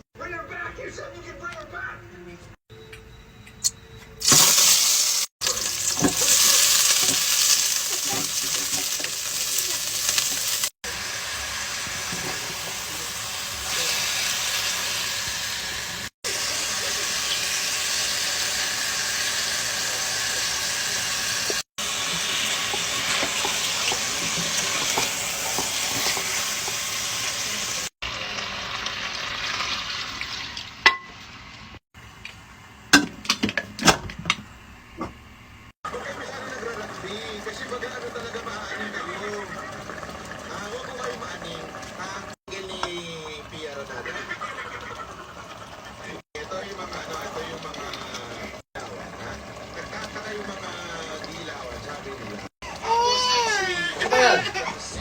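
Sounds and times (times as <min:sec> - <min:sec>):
chicken sizzling in hot oil: 0:04.2 - 0:31.8, 0:35.8 - 0:54.2.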